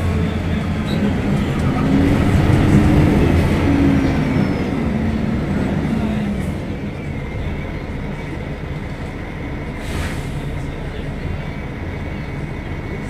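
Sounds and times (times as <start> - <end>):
bus diesel engine under load: 0.0 - 13.0.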